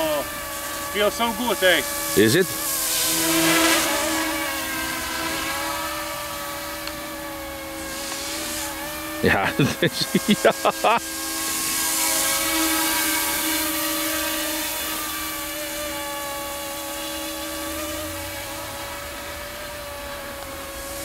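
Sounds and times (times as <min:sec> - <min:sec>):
rc helicopter rotors whining: 0:00.0 - 0:21.0.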